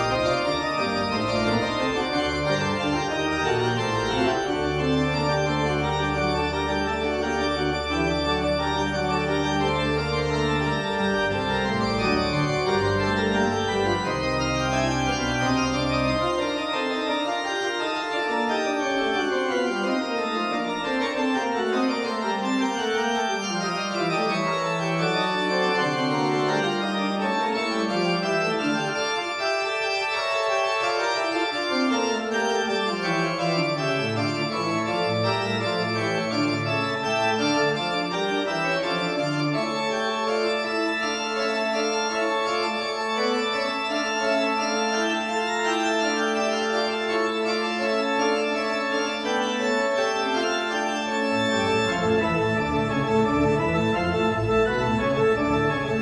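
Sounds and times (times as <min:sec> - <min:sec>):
pipe organ playing: 0:00.0 - 0:56.0.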